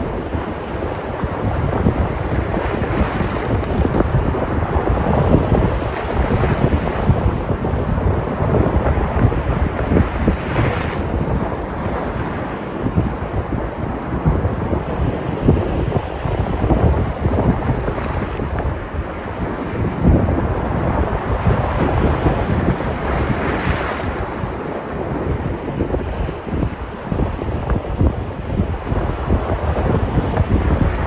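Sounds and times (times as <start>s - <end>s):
surf breaking on shore: 0.0s - 31.0s
wind buffeting microphone: 0.0s - 31.0s.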